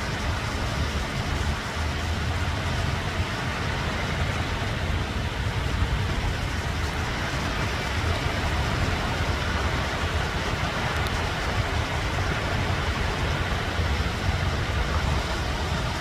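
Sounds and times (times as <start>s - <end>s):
deep rumble: 0.0s - 16.0s
ocean waves breaking: 0.0s - 16.0s.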